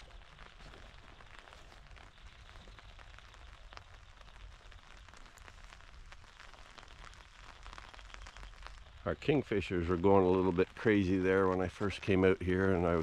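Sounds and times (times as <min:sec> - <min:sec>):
light rain hiss: 0:00.0 - 0:13.0
raindrop ticks: 0:00.0 - 0:13.0.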